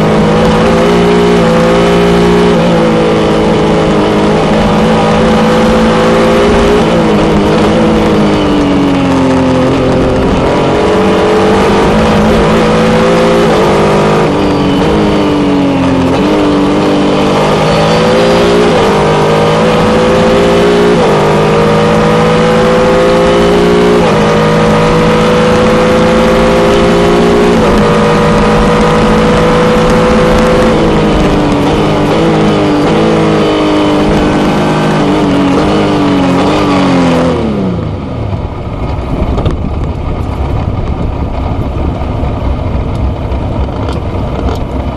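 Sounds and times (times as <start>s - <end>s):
race car engine at speed: 0.0s - 44.9s
wind noise: 0.0s - 44.9s.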